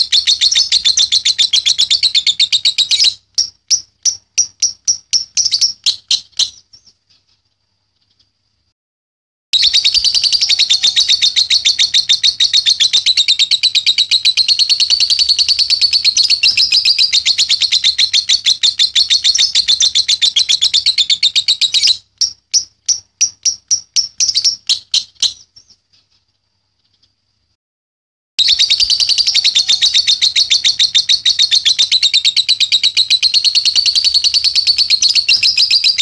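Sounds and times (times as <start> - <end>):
lovebird chattering trill: 0.0 - 6.9, 9.6 - 25.8, 28.4 - 36.0
bird chirps: 0.0 - 8.5, 9.6 - 27.3, 28.4 - 36.0.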